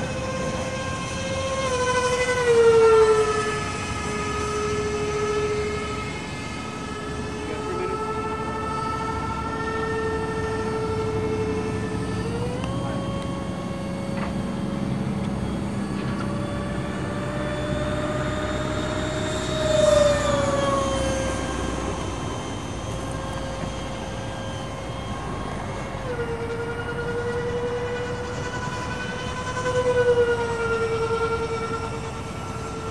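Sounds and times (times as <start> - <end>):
model jet electric motor whining: 0.0 - 32.9.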